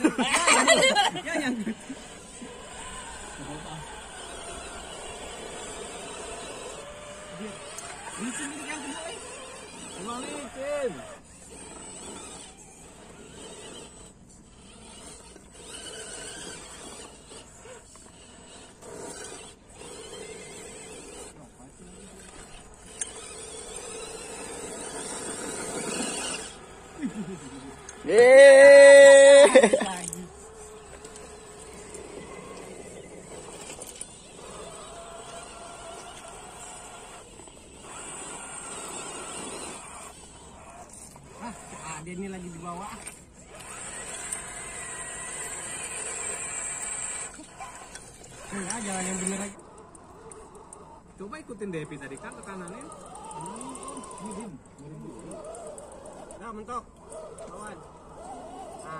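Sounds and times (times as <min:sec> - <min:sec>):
toy truck electric motors whining: 0:00.0 - 0:58.9.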